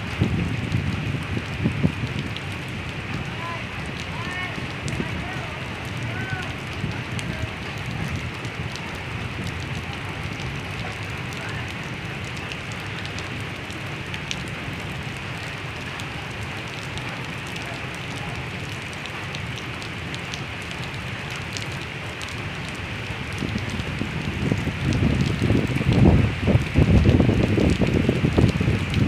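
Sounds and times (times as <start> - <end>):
rain on standing water: 0.0 - 29.0.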